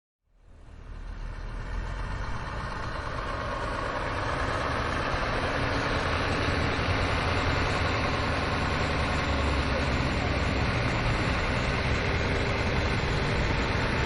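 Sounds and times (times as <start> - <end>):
diesel engine running: 0.3 - 14.0.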